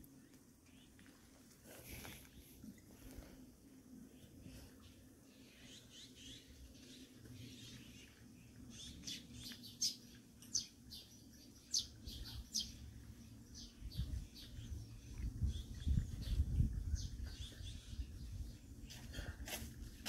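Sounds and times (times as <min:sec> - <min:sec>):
faint low hum: 0:00.0 - 0:20.0
small birds chirping: 0:00.0 - 0:20.0.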